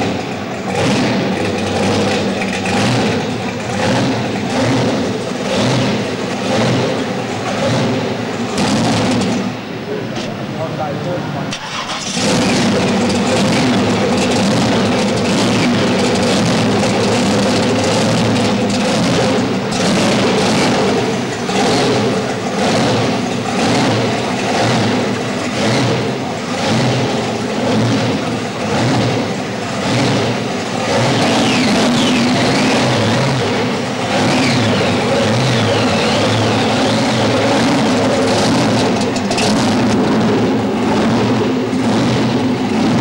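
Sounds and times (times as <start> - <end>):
loud engine with throttle blips: 0.0 - 43.0.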